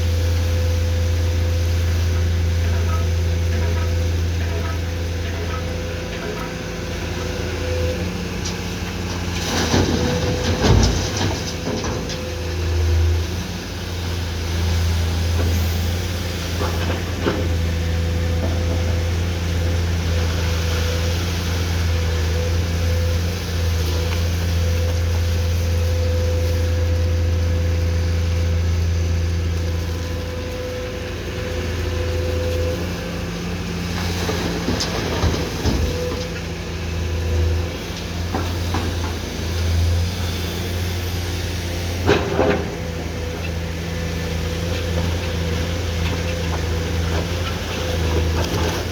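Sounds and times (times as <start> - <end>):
excavator diesel engine droning: 0.0 - 48.9.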